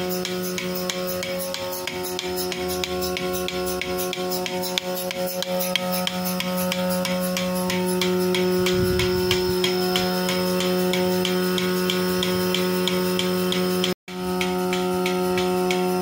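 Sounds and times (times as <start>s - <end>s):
vacuum pump motor hum: 0.0s - 16.0s.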